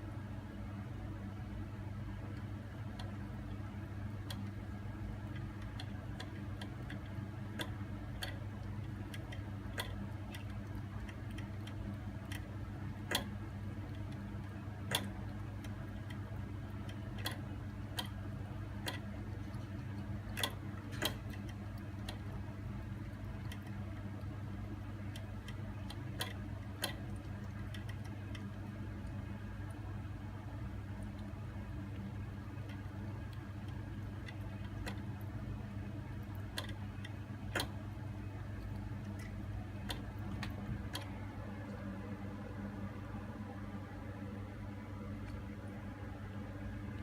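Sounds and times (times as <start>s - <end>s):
steady low hum: 0.0s - 47.0s
kitten feeding clicks: 1.9s - 47.0s.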